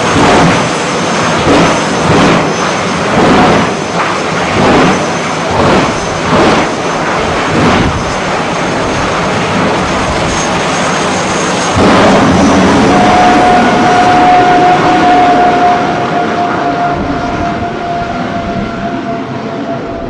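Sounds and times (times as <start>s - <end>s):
jet engine roaring: 0.0s - 20.0s
steady whine: 0.0s - 20.0s.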